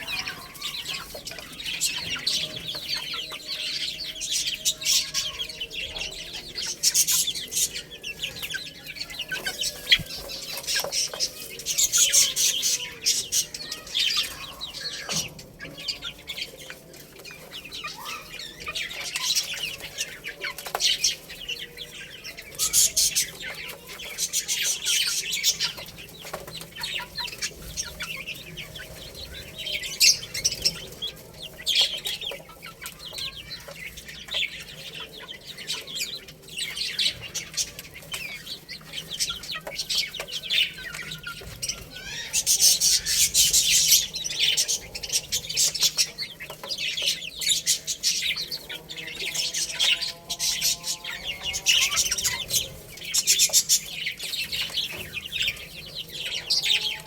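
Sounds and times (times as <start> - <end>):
chicks chirping: 0.0 - 57.0
chicks pecking clicks: 0.0 - 57.0.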